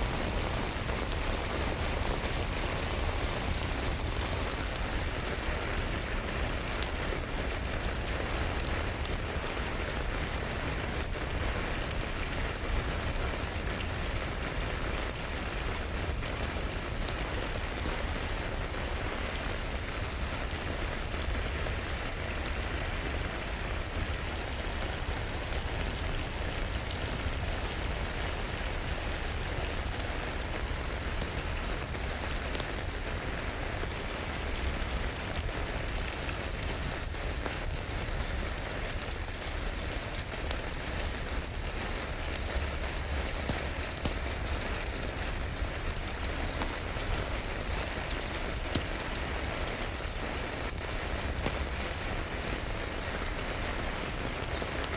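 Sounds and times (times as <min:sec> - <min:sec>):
fire crackling: 0:00.0 - 0:54.9
steady rain on a surface: 0:00.0 - 0:54.9.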